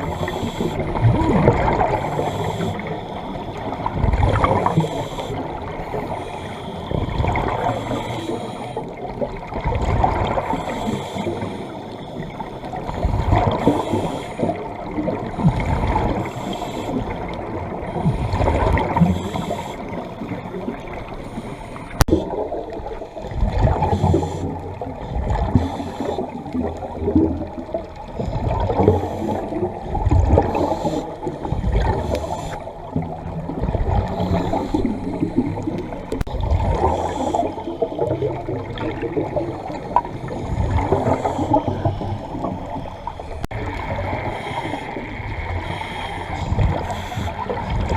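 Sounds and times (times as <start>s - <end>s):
underwater bubbles gurgling: 0.0s - 47.9s.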